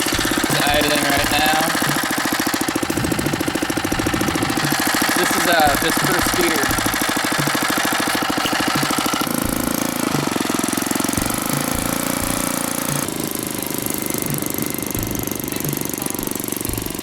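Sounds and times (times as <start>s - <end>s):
motorized bicycle engine puttering: 0.0s - 17.0s.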